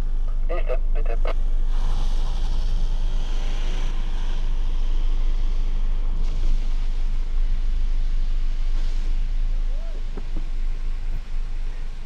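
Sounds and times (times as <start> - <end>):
car engine low rumble: 0.0 - 12.0
high hiss: 0.0 - 12.0.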